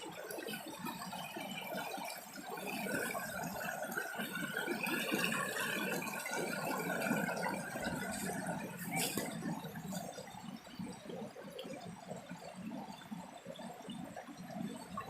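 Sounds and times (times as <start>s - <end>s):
stream water flowing over rocks: 0.0s - 15.0s.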